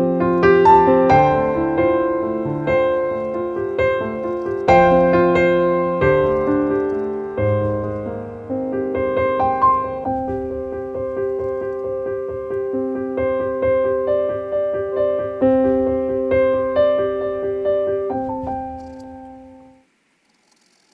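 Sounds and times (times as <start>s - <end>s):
gentle piano music: 0.0s - 19.9s.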